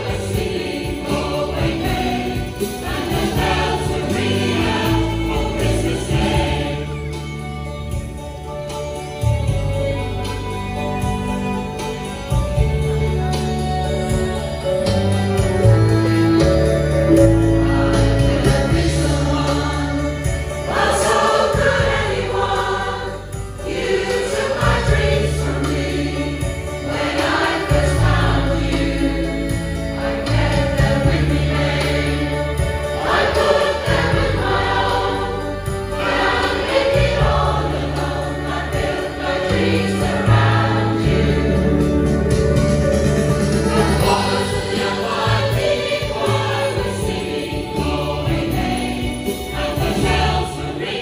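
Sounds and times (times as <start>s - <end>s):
choir singing: 0.0s - 9.6s, 12.3s - 51.0s.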